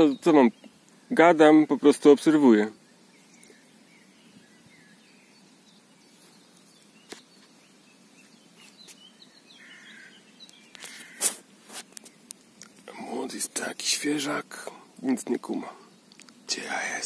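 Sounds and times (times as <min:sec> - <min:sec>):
faint songbird chirps: 0:00.0 - 0:17.0.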